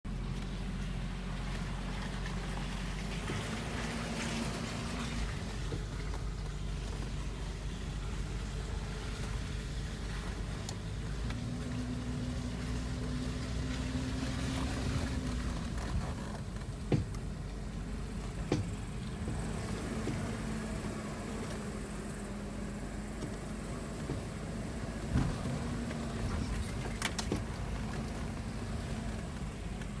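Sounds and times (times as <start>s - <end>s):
car engine drone: 0.0s - 30.0s
faint engine knocks: 0.1s - 30.0s.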